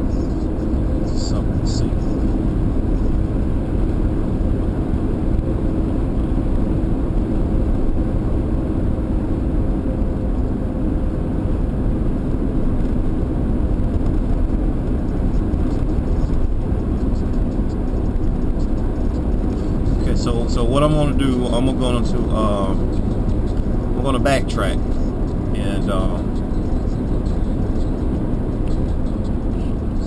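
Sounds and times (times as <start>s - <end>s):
faint engine hum: 0.0s - 30.0s
low vehicle rumble: 0.0s - 30.0s.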